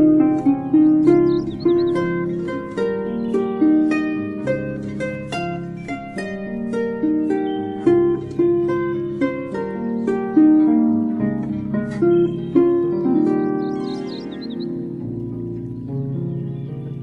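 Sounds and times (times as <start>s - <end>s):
plucked harp-like melody: 0.0s - 17.0s.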